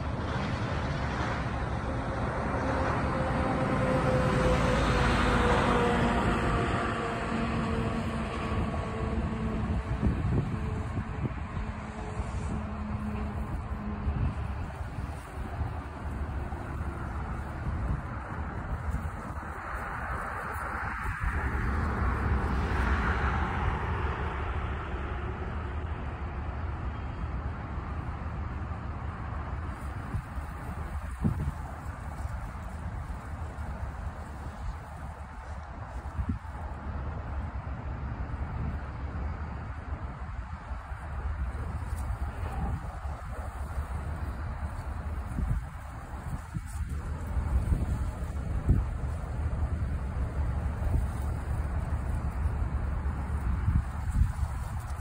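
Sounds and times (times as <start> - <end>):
vehicle rumble: 0.0 - 55.0.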